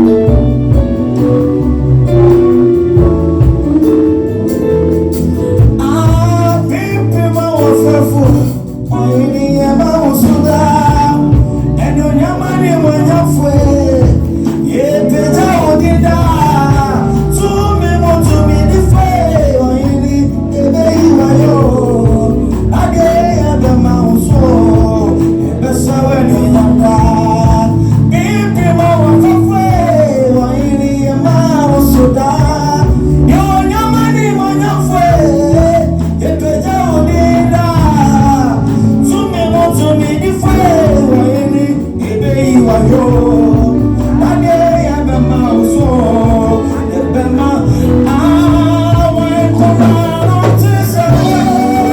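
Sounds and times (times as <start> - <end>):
low bass and percussion: 0.0 - 51.9
music with singing voices: 0.0 - 51.9.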